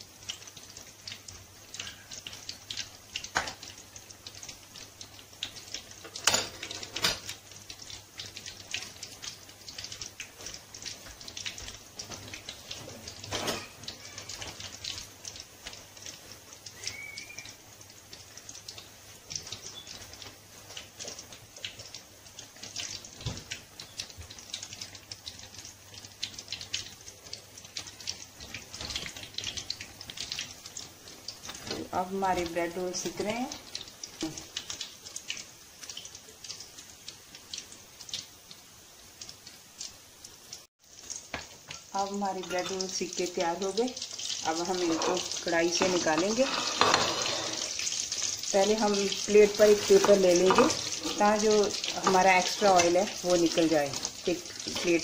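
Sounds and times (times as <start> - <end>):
bread rolls sizzling in hot oil: 0.0 - 55.0.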